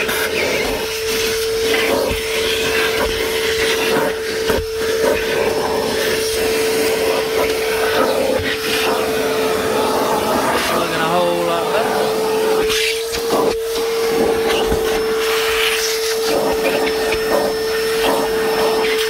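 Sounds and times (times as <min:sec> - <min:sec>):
shop vacuum running: 0:00.0 - 0:19.0.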